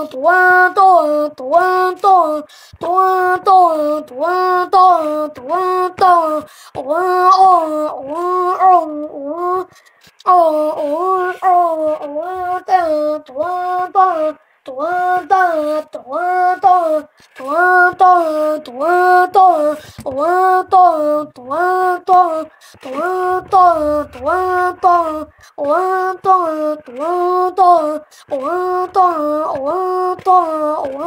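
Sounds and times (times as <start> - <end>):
child chanting sing-song: 0.0 - 31.0.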